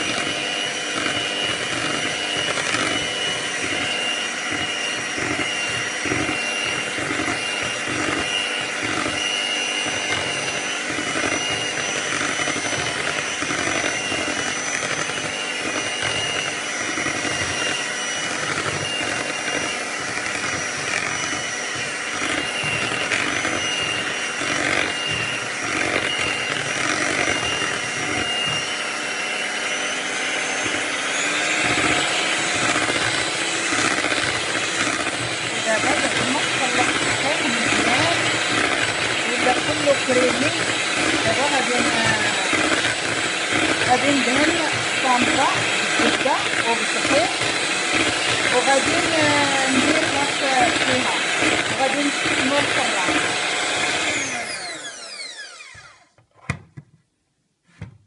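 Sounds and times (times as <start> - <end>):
electric hand mixer whining: 0.0 - 56.8.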